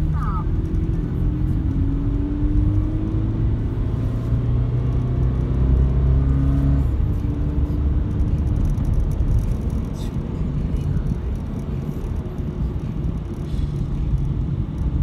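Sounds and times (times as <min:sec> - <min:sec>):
car engine: 0:00.0 - 0:15.0
road rumble: 0:00.0 - 0:15.0.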